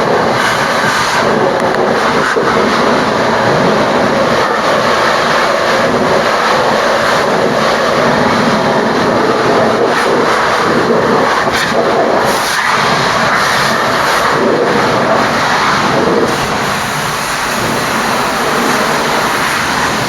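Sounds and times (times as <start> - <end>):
pressure washer spraying water: 0.0 - 20.0.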